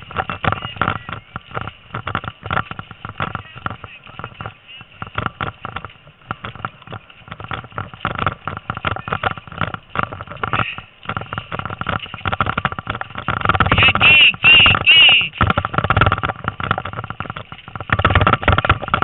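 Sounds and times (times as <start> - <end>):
bicycle rattling on dirt trail: 0.0 - 19.0.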